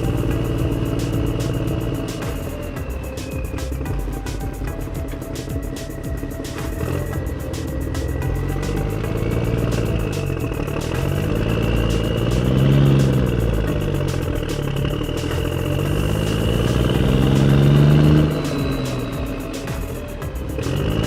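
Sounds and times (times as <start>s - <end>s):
even ticking beat: 0.0s - 21.0s
motor-like hum rising in pitch: 0.0s - 21.0s.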